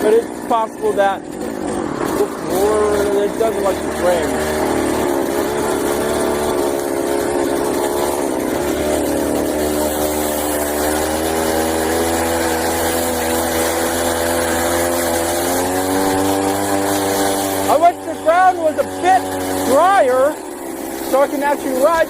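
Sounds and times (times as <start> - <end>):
two-stroke engine running: 0.0 - 22.0.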